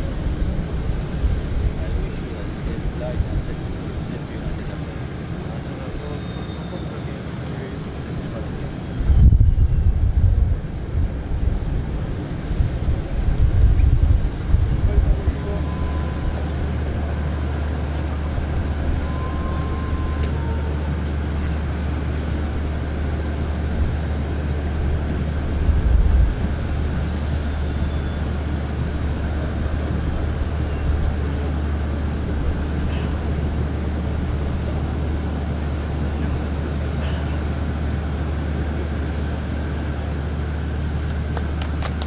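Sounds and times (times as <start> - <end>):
high jet engine whine: 0.0 - 42.0
jet engines rumbling: 0.0 - 42.0.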